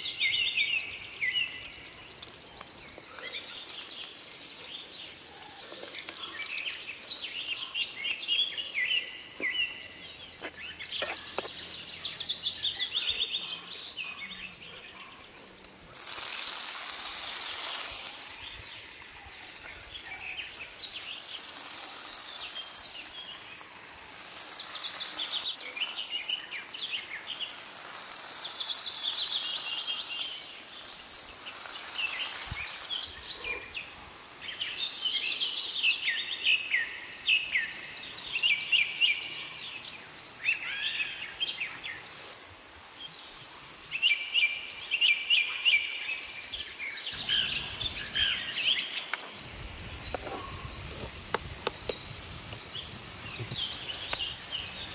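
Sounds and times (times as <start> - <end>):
background hiss: 0.0 - 54.9.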